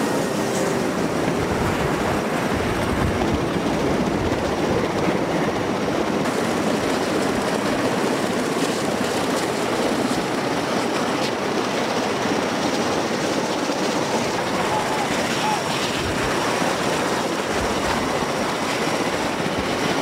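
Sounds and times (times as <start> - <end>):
helicopter rotors and turbines: 0.0 - 20.0
rush of rotor wash: 0.0 - 20.0.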